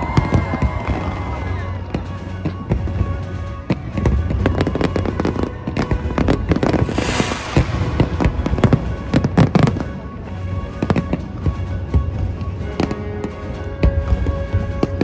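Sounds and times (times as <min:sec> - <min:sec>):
fireworks bangs and crackles: 0:00.0 - 0:15.0
hissing crackle of fireworks: 0:00.0 - 0:15.0.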